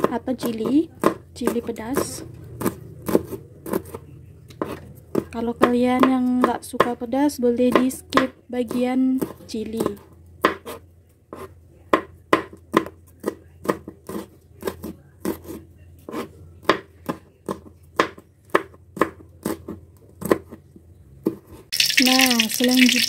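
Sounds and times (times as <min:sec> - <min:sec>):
knife chopping on cutting board: 0:00.0 - 0:04.0, 0:04.6 - 0:20.6.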